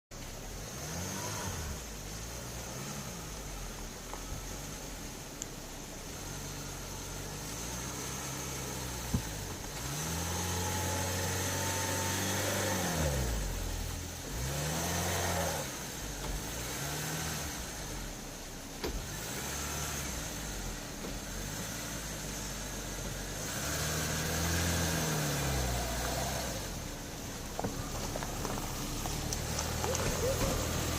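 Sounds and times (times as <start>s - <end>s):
car engine revving: 0.2s - 30.9s.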